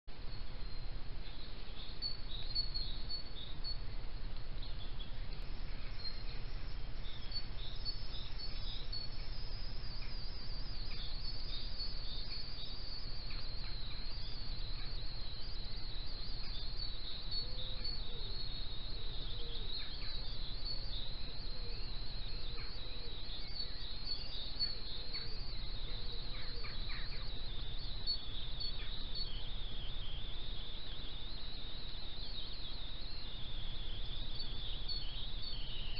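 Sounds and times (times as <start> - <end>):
lower bird calls: 0.1 - 35.9
small birds chirping: 0.1 - 35.9.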